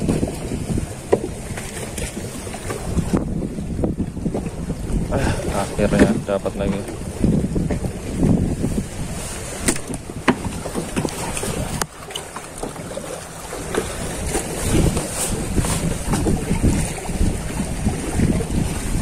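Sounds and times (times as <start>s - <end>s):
water lapping against boat: 0.0s - 19.0s
wind buffeting microphone: 0.0s - 19.0s.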